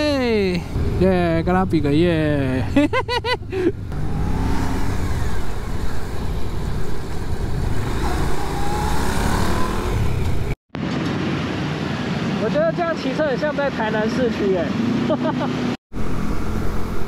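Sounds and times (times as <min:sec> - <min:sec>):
motorcycle engines: 0:00.0 - 0:17.0.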